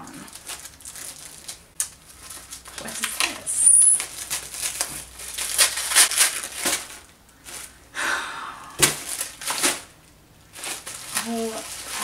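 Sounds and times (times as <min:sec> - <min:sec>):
gift wrapping crinkling and tearing: 0:00.2 - 0:07.8, 0:08.8 - 0:12.0.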